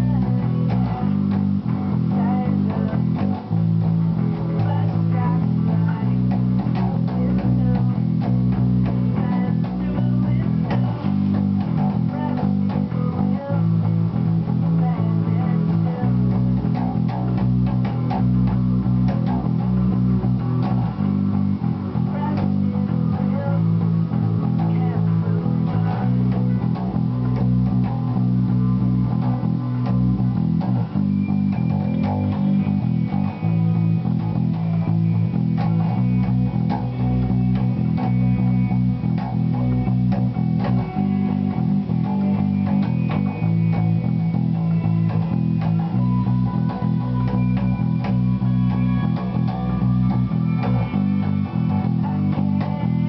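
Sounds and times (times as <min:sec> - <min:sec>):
electric bass guitar rock bassline: 0:00.0 - 0:53.0.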